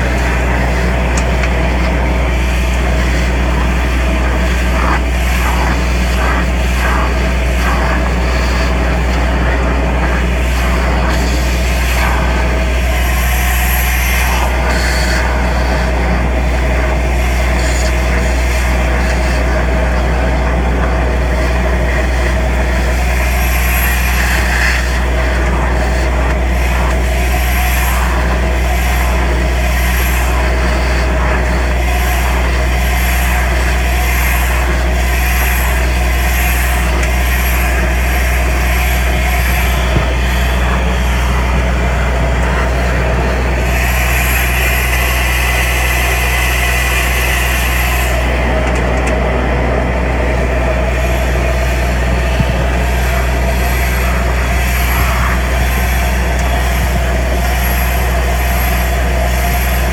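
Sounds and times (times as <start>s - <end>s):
compressed-air lance hissing: 0.0s - 59.9s
excavation machine engine drone: 0.0s - 59.9s.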